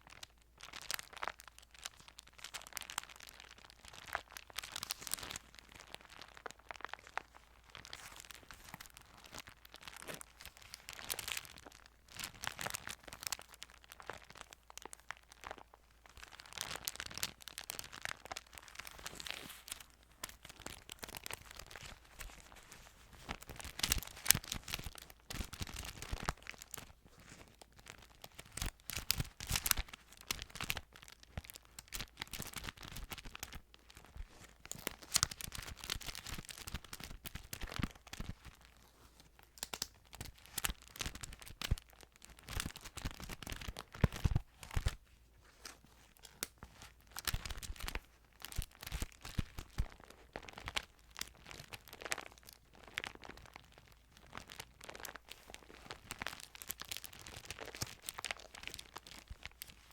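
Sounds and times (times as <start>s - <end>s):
thin paper pages crinkling: 0.8s - 59.9s.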